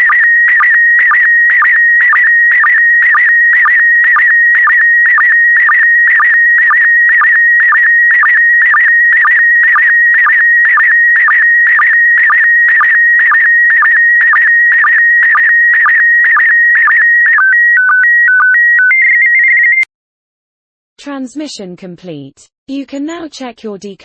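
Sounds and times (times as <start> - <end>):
warbling signal tone: 0.0 - 19.8.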